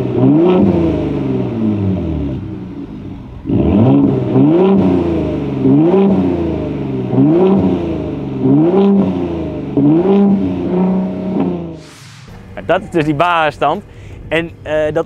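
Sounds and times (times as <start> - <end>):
engine revving in throttle blips: 0.0 - 14.3.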